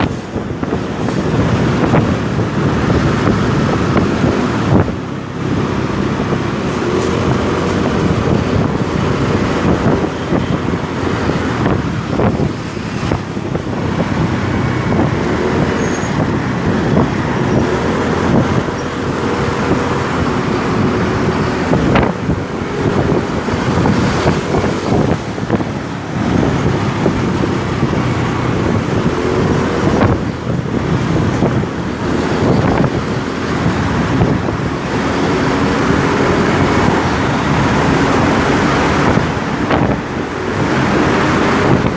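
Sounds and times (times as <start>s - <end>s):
road and wind noise: 0.0s - 41.9s.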